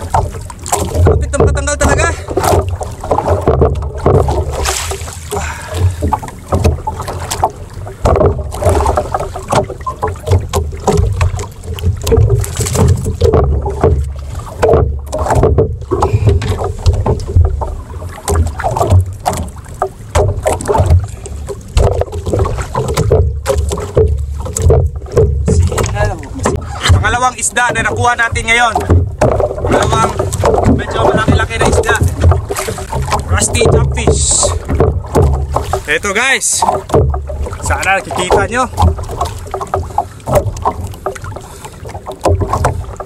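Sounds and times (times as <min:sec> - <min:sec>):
waves slapping against hull: 0:00.0 - 0:43.0.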